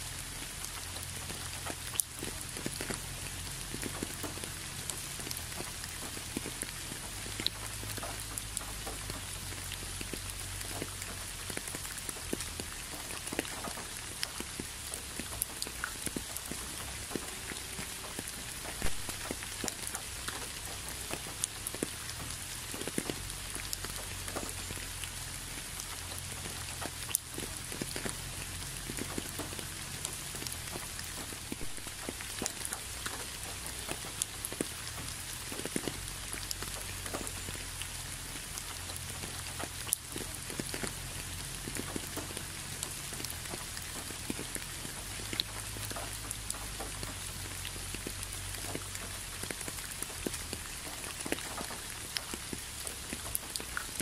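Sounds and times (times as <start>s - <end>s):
raindrops landing close by: 0.0s - 54.0s
steady rain hiss: 0.0s - 54.0s.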